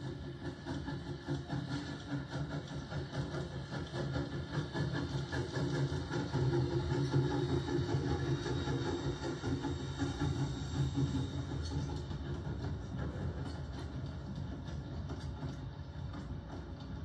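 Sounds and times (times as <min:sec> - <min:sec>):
steam train rumbling past: 0:00.0 - 0:17.0.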